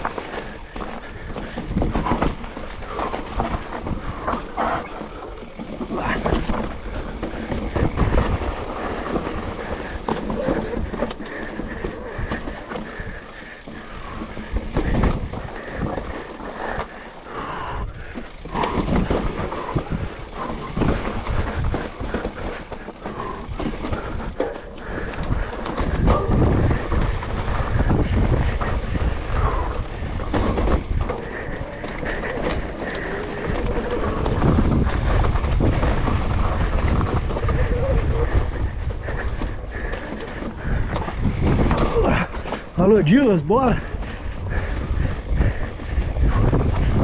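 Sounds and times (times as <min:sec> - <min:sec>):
bike frame and chain clattering: 0:00.0 - 0:47.0
tyre noise on rough trail: 0:00.0 - 0:47.0.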